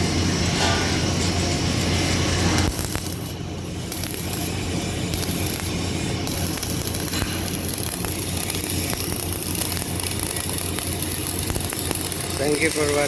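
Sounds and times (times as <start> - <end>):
low hum: 0.0 - 12.7
arc welding crackling hiss: 1.7 - 13.0.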